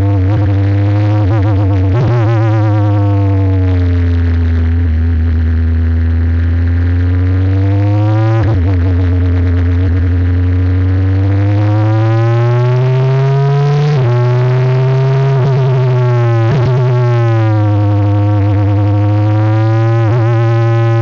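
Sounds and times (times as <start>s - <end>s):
racing car engine at speed: 0.0s - 21.0s.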